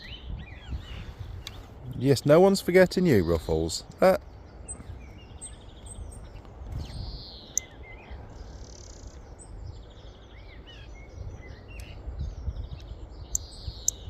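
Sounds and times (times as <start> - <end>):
birds chirping and whistling: 0.0 - 2.1, 4.4 - 14.0
wind rumble: 0.0 - 14.0.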